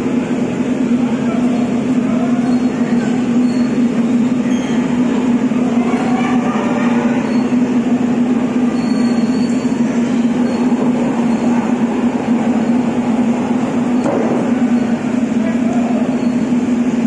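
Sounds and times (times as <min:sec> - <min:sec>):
loud mechanical drone: 0:00.0 - 0:17.0.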